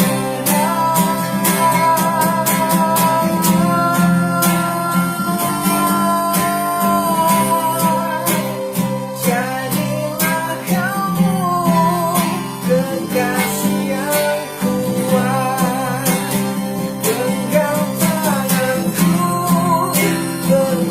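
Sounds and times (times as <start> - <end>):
acoustic guitar: 0.0 - 20.9.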